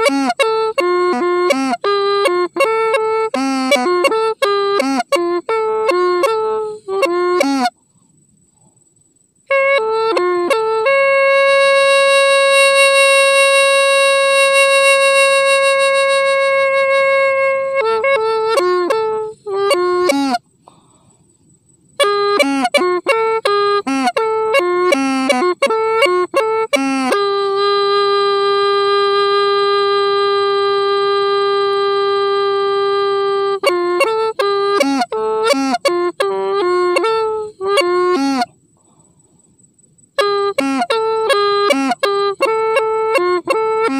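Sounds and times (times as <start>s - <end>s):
pipe playing a melody: 0.0s - 7.7s, 9.5s - 20.4s, 22.0s - 38.5s, 40.1s - 43.9s.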